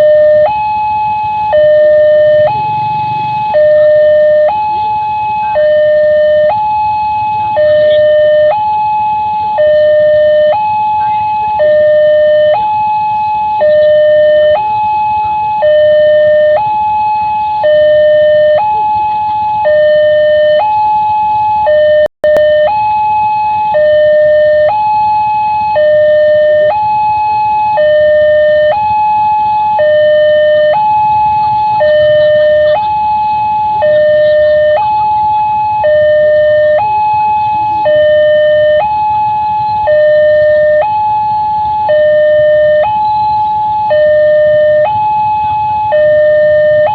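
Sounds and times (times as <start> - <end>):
level crossing two-tone alarm: 0.0 - 46.9.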